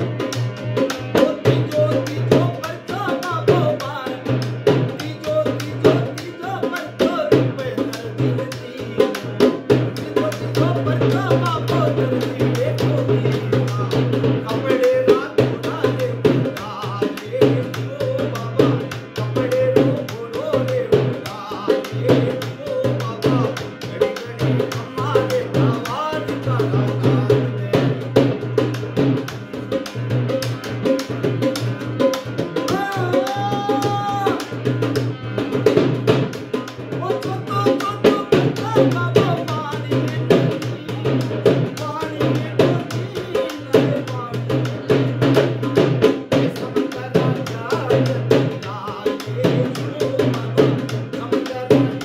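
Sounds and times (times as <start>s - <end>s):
hand-beaten barrel drum: 0.0s - 52.0s
man singing: 0.0s - 52.0s.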